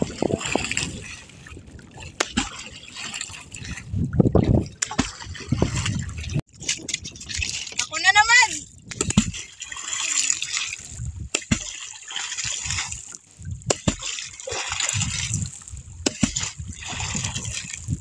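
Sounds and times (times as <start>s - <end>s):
poles splashing into water: 0.0s - 18.0s.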